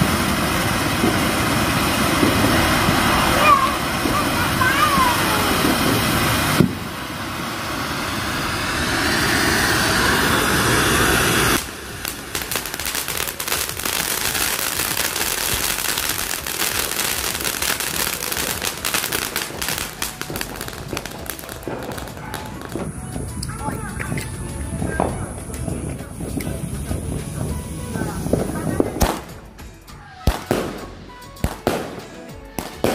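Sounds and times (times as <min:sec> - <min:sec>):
fountain firework hissing: 0:00.0 - 0:32.9.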